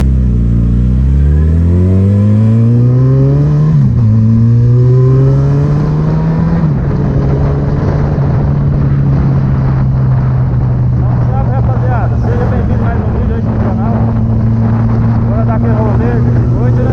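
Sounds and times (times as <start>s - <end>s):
motorcycle engine accelerating: 0.0s - 16.9s.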